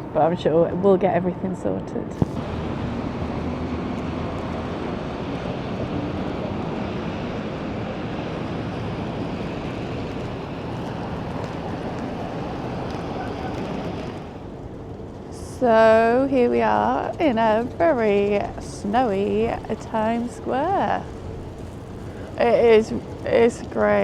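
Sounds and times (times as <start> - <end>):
traffic: 0.0 - 24.0
wind: 0.0 - 24.0.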